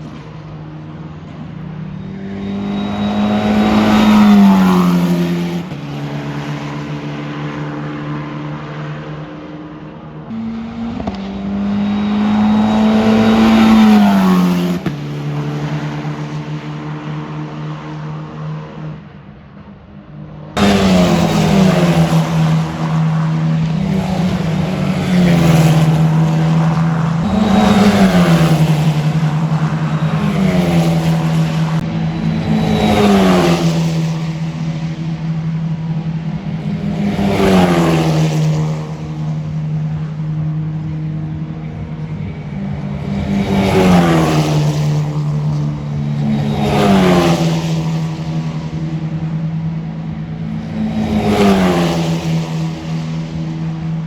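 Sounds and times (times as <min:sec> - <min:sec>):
racing cars passing at speed: 0:00.0 - 0:54.0.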